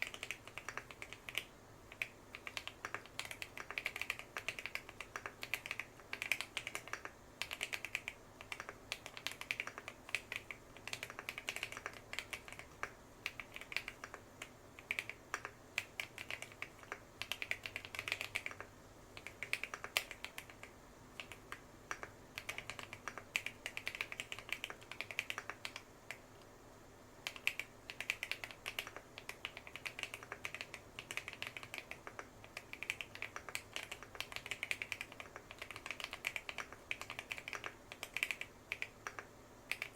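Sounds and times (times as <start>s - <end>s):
mechanical keyboard typing: 0.0s - 26.2s, 27.2s - 39.9s.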